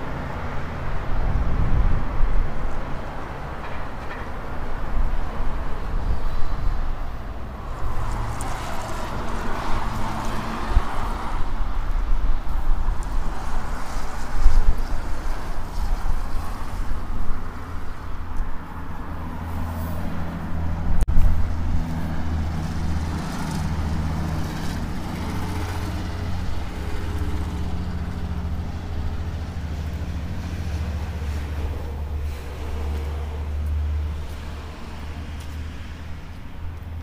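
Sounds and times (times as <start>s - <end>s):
vehicle engine humming: 0.0s - 37.0s
vehicles passing: 0.0s - 37.0s.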